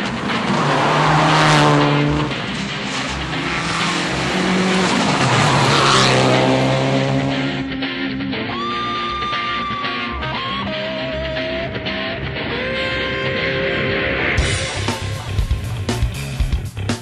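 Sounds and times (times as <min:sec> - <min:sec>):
rally car engine revving: 0:00.0 - 0:16.2.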